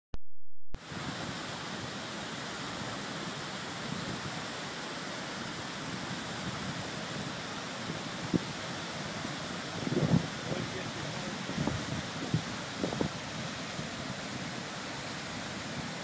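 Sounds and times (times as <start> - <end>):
floodwater rushing: 0.8 - 16.0.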